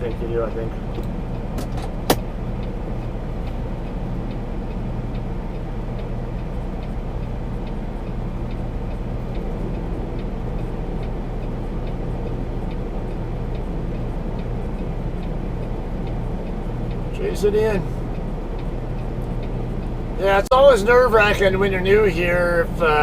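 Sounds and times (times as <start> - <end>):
diesel engine idling: 0.0 - 23.0
faint regular ticking: 0.0 - 23.0.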